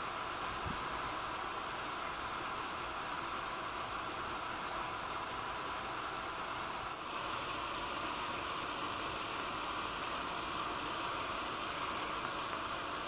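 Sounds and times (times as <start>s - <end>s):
shallow river water rushing: 0.0s - 13.0s.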